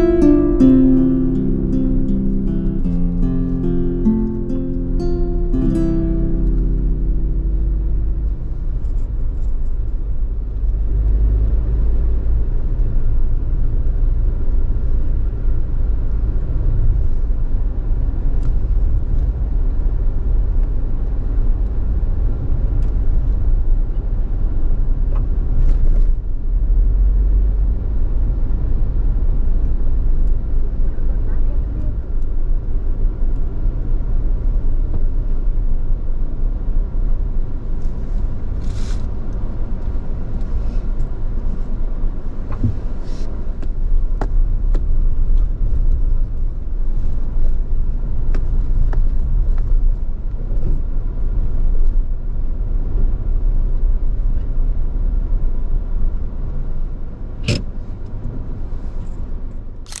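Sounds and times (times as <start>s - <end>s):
engine and tyres rumbling: 4.8s - 60.0s.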